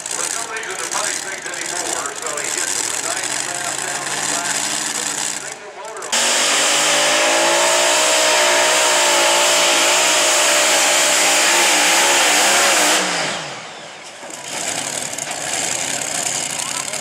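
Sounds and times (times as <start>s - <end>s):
pulling tractor engines at full throttle: 0.0s - 17.0s.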